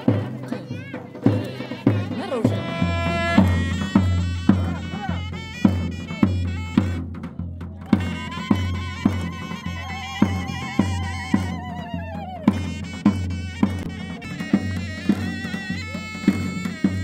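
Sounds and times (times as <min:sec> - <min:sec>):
reedy shawm melody: 0:00.0 - 0:17.0
steady drum beat: 0:00.0 - 0:17.0.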